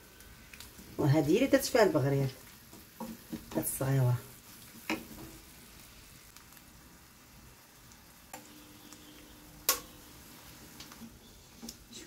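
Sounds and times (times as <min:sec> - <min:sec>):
eggs sizzling in a skillet: 0:00.0 - 0:12.0.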